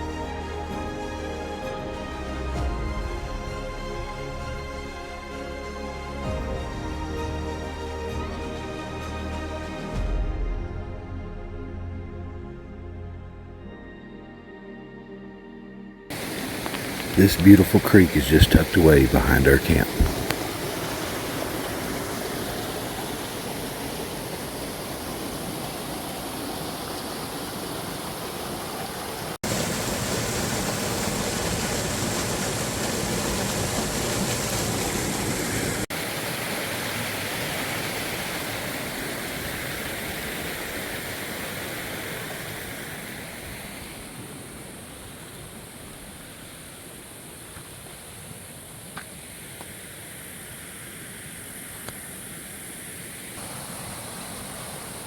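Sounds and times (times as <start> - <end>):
creek water rushing: 0.0 - 10.1, 16.1 - 55.0.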